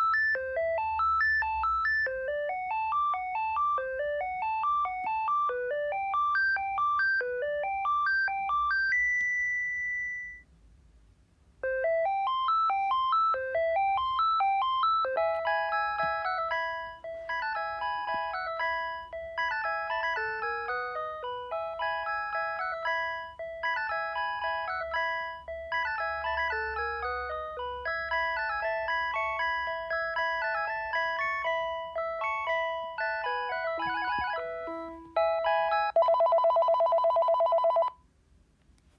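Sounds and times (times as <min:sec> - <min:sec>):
electronic ringtone melody: 0:00.0 - 0:10.4, 0:11.6 - 0:38.0.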